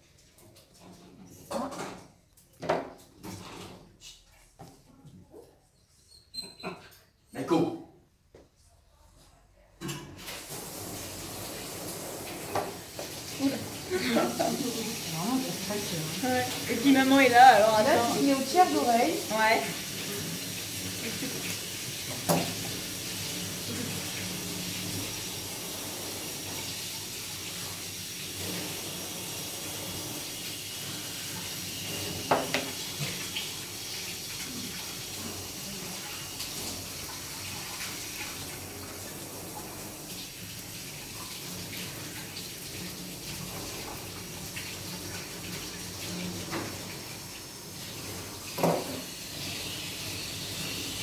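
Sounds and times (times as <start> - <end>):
water tap running: 10.0 - 51.0.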